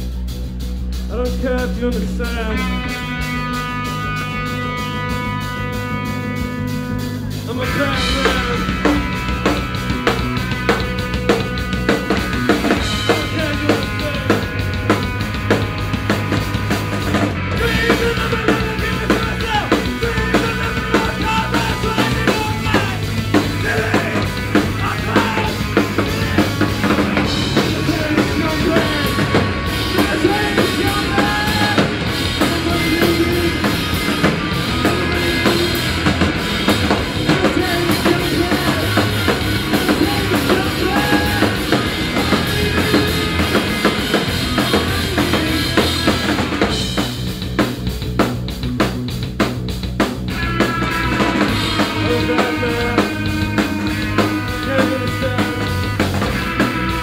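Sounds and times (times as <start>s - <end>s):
drum kit playing: 0.0s - 57.0s
electric guitars playing: 0.0s - 57.0s.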